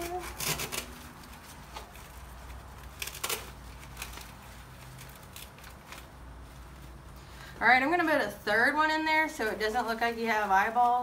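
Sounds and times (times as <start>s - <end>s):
artificial foliage rustling: 0.0s - 11.0s.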